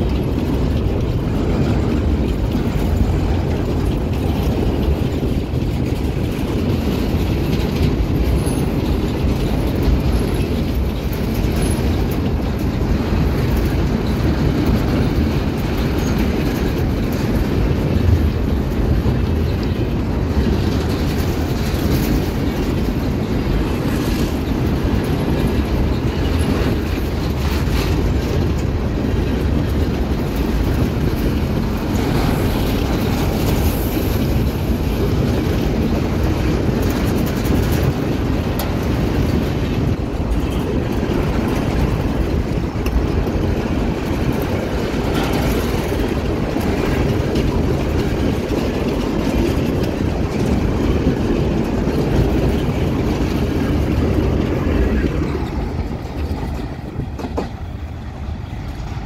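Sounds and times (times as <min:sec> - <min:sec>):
freight train wheels rumbling: 0:00.0 - 0:59.0
wheels clicking over rail joints: 0:00.0 - 0:59.0.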